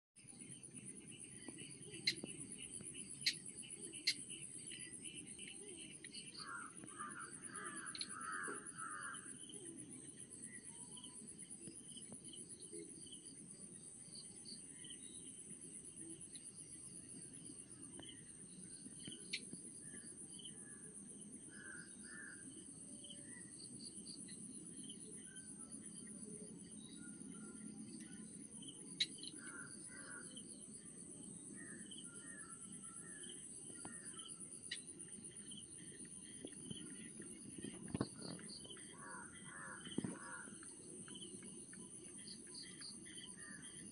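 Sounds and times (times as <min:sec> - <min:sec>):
insects trilling: 0:01.2 - 0:13.3, 0:14.1 - 0:43.9.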